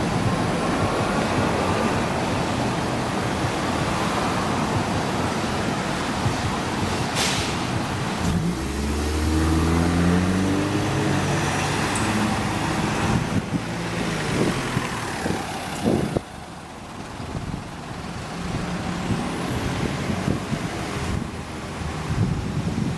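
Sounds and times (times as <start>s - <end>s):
bus engine accelerating: 0.0s - 22.9s
road roar: 0.0s - 22.9s.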